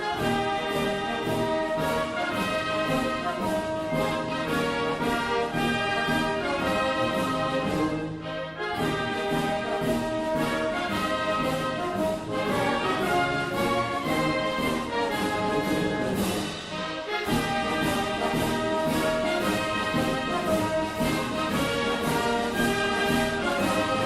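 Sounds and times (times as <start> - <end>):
brass-led orchestral music: 0.0 - 24.0.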